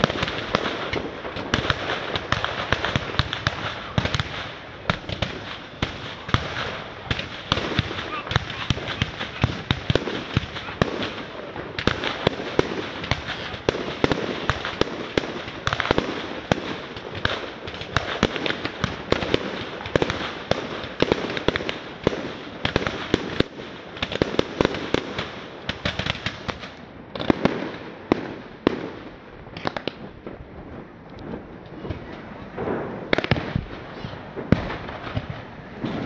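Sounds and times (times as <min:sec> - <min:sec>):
constant hiss: 0:00.0 - 0:36.0
fireworks banging and crackling: 0:00.0 - 0:36.0.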